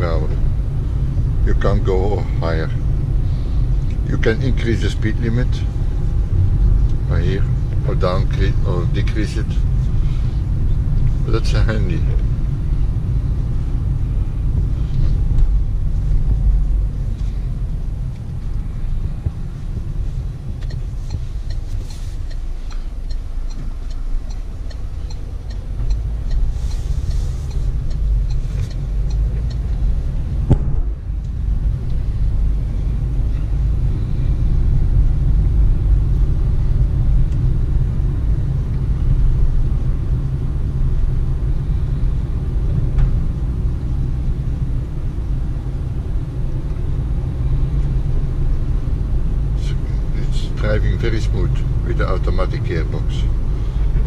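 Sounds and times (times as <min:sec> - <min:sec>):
van cabin engine and road rumble: 0:00.0 - 0:54.0.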